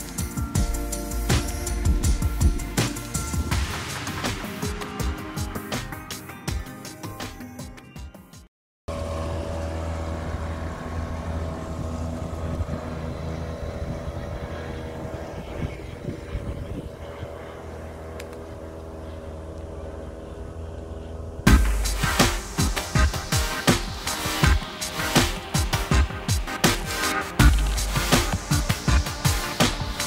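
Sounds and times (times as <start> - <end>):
boat engine droning: 0.0 - 5.7, 8.9 - 30.0.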